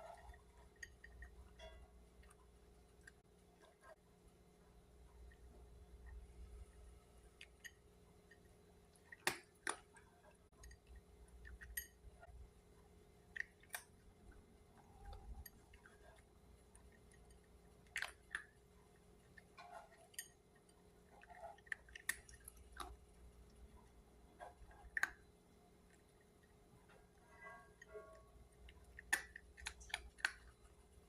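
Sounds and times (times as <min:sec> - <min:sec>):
cat chewing crunches: 0:04.9 - 0:27.2, 0:28.4 - 0:31.0.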